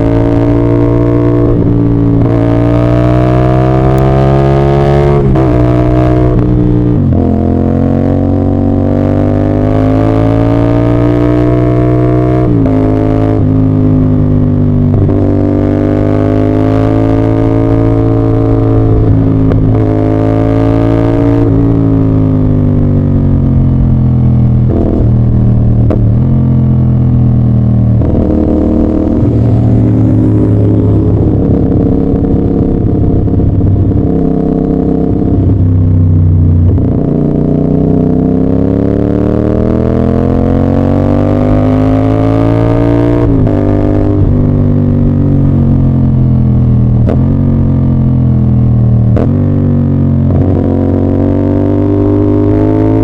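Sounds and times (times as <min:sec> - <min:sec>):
motorcycle engine and exhaust: 0:00.0 - 0:53.0.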